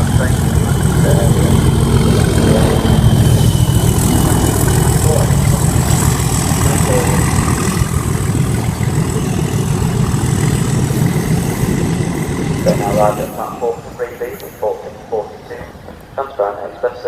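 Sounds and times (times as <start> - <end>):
high engine whine: 0.0 - 17.0
locomotive diesel engine rumbling: 0.0 - 17.0.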